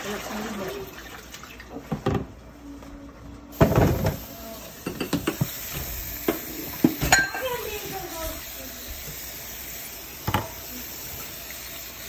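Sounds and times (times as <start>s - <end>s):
tap water running into a basin: 0.0s - 2.3s, 3.6s - 12.0s.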